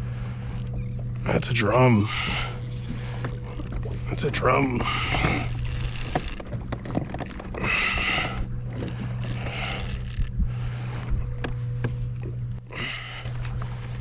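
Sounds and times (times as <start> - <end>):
steady low hum: 0.0 - 14.0
fishing reel whirring and clicking: 0.5 - 14.0.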